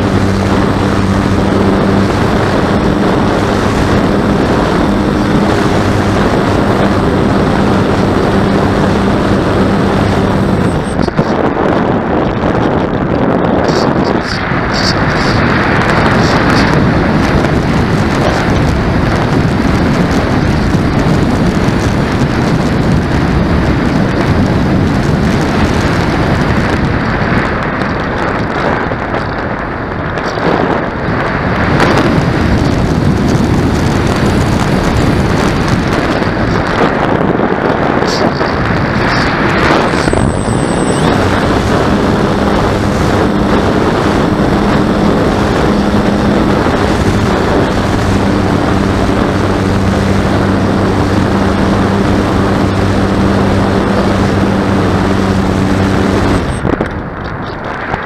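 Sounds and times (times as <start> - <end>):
low hum: 0.0 - 58.0
wind buffeting microphone: 0.0 - 58.0.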